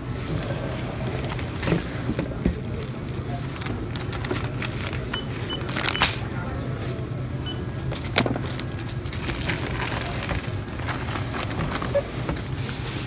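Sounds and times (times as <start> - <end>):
grocery items knocking and rustling: 0.0 - 13.0.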